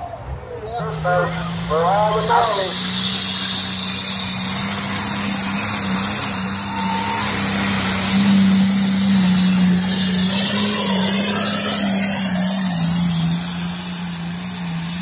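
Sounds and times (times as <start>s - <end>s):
diesel engine running flat out: 0.0s - 15.0s.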